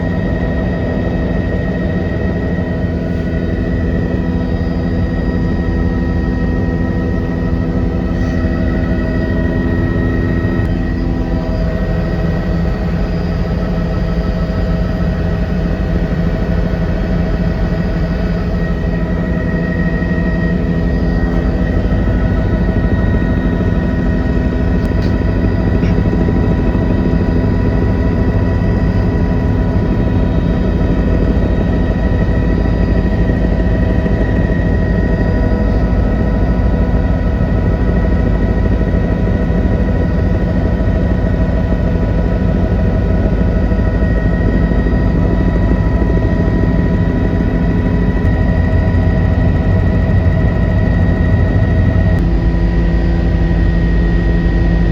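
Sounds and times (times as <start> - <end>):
helicopter engine and rotors drone: 0.0 - 54.9
steady whining tones: 0.0 - 54.9.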